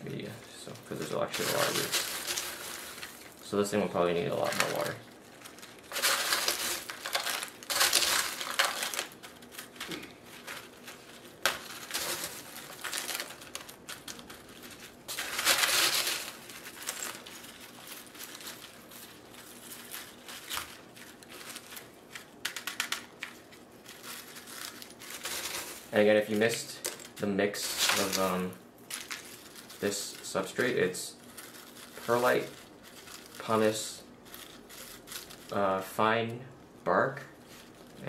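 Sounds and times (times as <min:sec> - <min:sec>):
potting mix rattling and crunching: 0:00.0 - 0:38.0.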